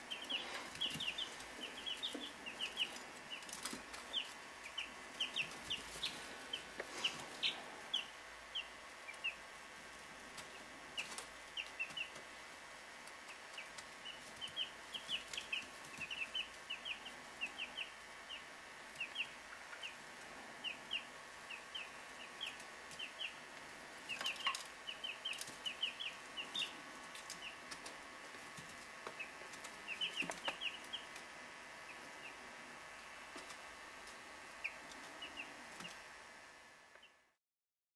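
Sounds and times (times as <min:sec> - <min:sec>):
chicks peeping: 0:00.0 - 0:37.2
faint steady hum: 0:00.0 - 0:37.4.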